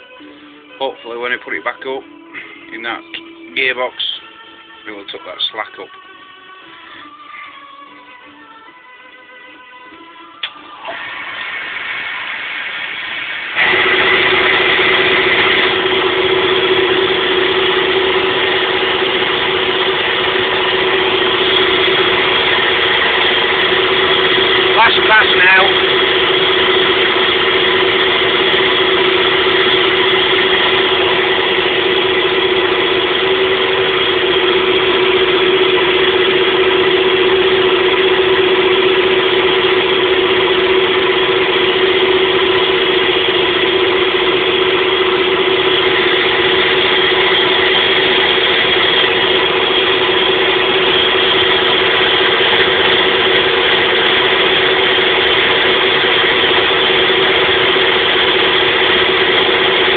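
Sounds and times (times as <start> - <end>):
cnc machine whine: 9.5 - 59.9.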